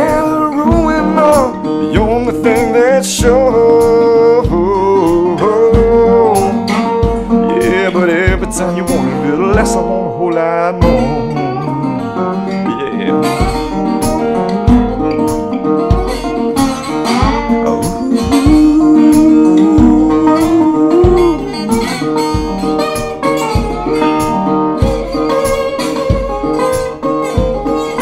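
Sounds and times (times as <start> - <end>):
low thump keeping the beat: 0.0 - 10.2, 10.8 - 28.0
resonator guitar playing: 0.0 - 28.0.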